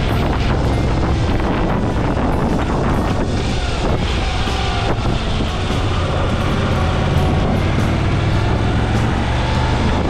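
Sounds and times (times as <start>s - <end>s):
motorcycle engine humming: 0.0s - 10.0s
road and wind rush: 0.0s - 10.0s.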